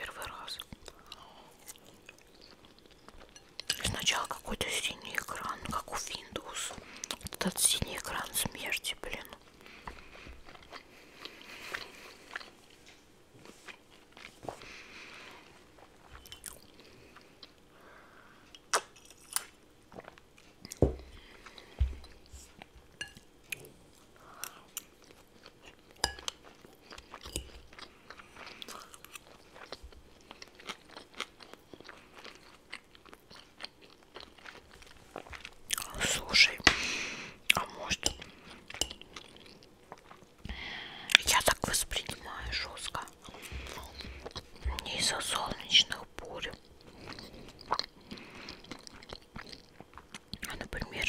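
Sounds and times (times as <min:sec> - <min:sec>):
chewing and crunching food: 0:00.0 - 0:51.0.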